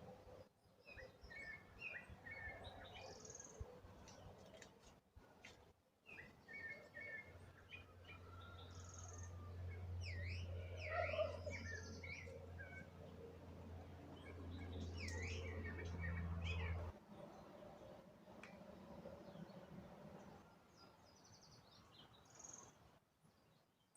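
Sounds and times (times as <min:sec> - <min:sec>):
small birds chirping: 0:00.2 - 0:23.9.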